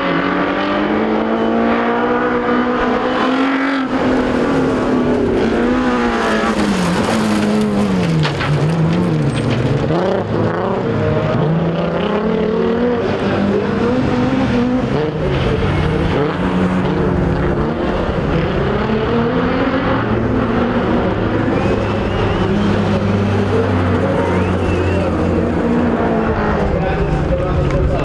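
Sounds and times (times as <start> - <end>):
racing car engines revving: 0.0 - 28.0.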